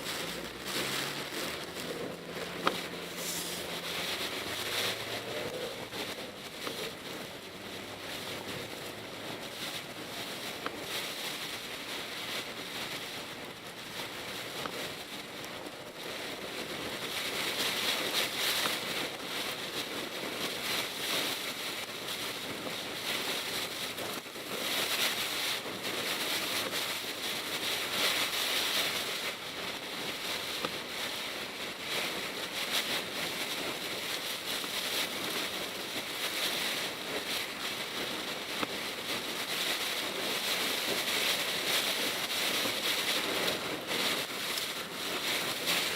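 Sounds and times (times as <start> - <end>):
gusting wind: 0.0 - 45.9
heavy rain on a car: 0.0 - 45.9
tyres hissing on wet road: 0.0 - 45.9.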